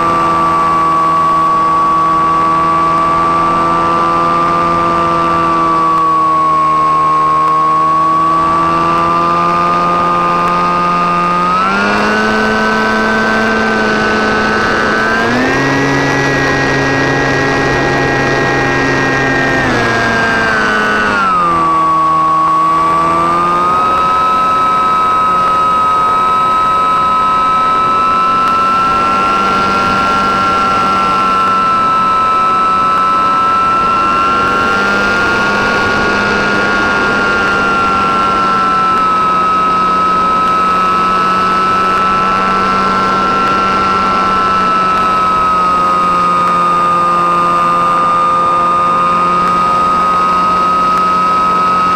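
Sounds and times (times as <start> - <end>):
model plane motor droning: 0.0 - 51.9.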